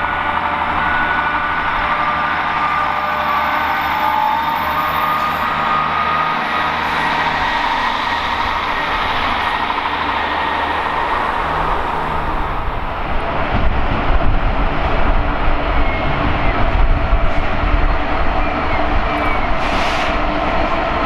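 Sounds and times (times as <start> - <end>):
deep uneven train rumble: 0.0 - 21.0
train rushing past: 0.0 - 21.0.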